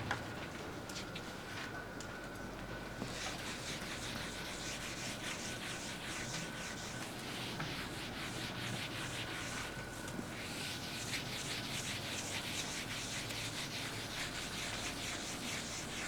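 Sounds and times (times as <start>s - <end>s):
eraser rubbing a board: 3.0s - 16.0s.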